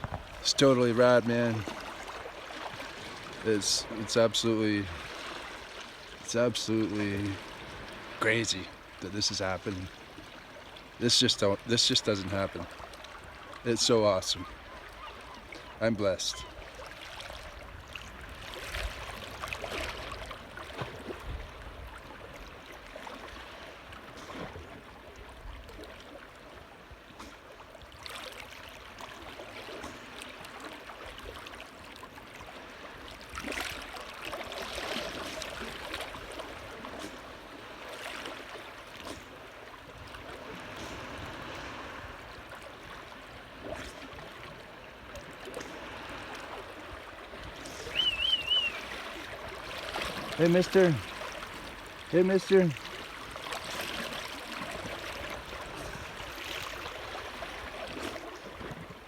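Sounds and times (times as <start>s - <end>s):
water lapping and trickling: 0.0s - 59.0s.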